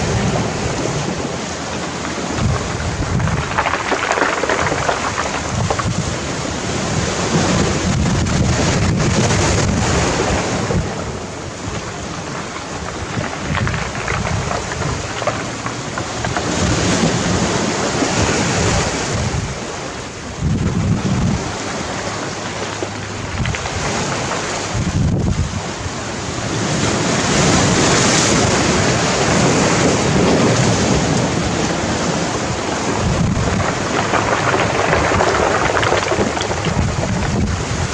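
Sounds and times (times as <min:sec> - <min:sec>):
waves washing over pebbles: 0:00.0 - 0:37.9.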